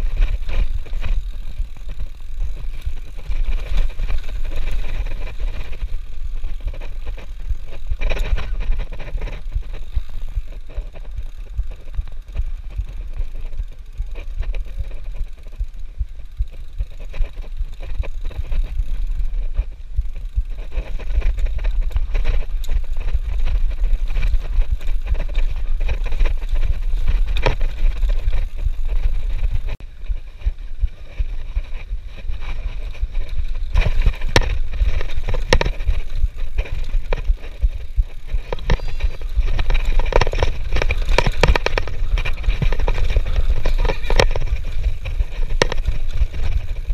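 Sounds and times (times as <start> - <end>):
bike rattling and knocking: 0.0 - 46.9
wind on microphone: 0.0 - 46.9.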